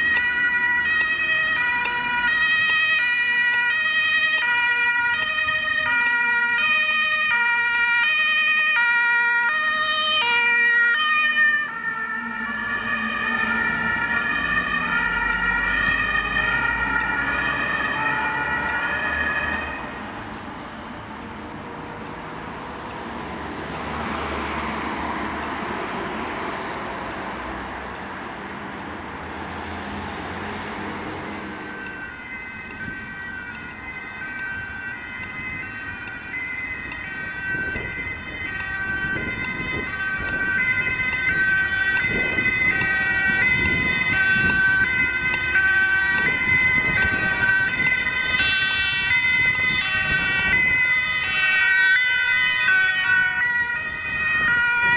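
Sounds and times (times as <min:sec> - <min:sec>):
road traffic passing: 0:00.0 - 0:54.9
two-tone ambulance siren: 0:00.0 - 0:54.9.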